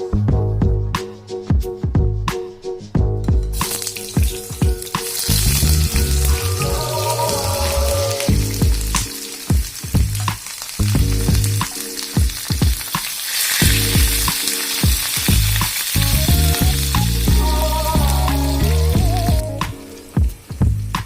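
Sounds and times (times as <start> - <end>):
background music with bass: 0.0 - 12.7, 13.5 - 21.0
food frying in a pan: 3.6 - 21.0.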